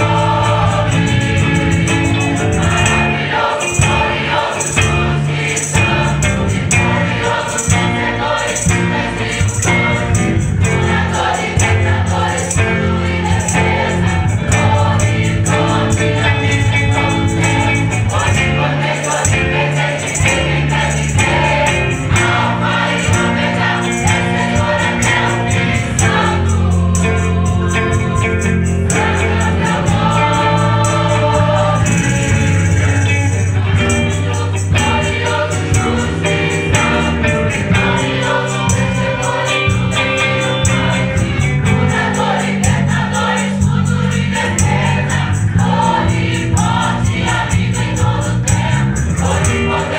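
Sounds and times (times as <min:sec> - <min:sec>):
choir singing gospel song: 0:00.0 - 0:49.9
instrumental accompaniment with bass: 0:00.0 - 0:49.9.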